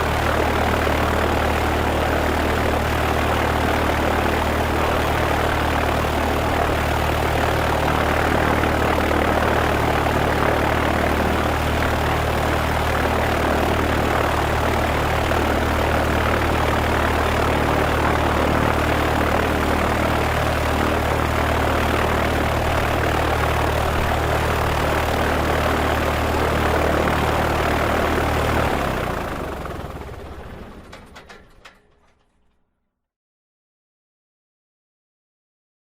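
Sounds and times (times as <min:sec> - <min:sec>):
propeller plane engine idling: 0:00.0 - 0:32.6.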